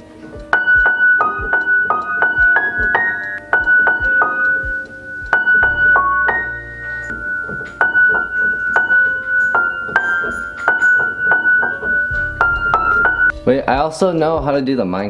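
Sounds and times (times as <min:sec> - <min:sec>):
piano tune: 0:00.0 - 0:15.0.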